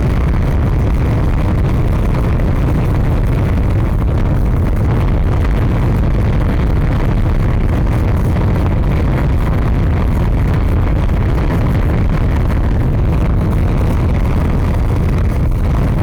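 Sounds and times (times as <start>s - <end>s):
fire burning with low rumble: 0.0s - 16.0s.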